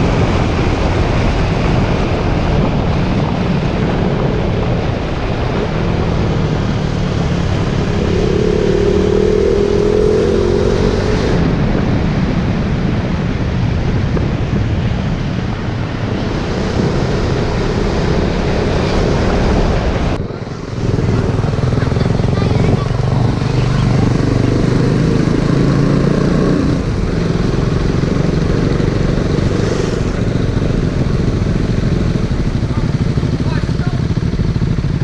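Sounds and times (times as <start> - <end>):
motorcycle engine running: 0.0 - 35.0
wind rush on microphone: 0.0 - 35.0.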